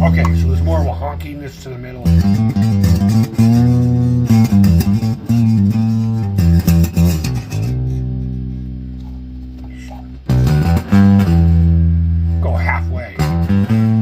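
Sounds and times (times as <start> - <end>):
electric bass guitar notes: 0.0 - 14.0.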